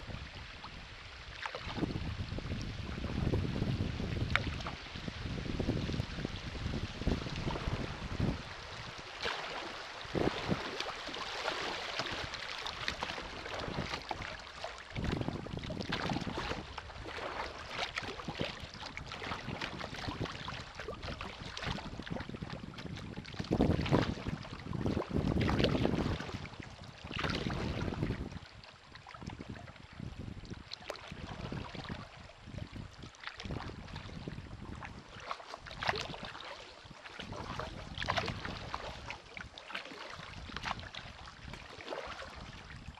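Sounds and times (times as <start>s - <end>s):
wind buffeting microphone: 0.0s - 39.5s, 40.1s - 42.9s
paddle strokes splashing water: 0.0s - 42.9s.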